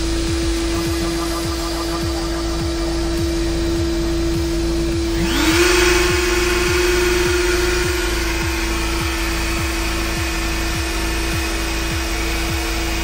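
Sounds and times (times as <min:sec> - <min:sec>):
motor spinning up with whine: 0:00.0 - 0:13.0
router spindle humming: 0:00.0 - 0:13.0.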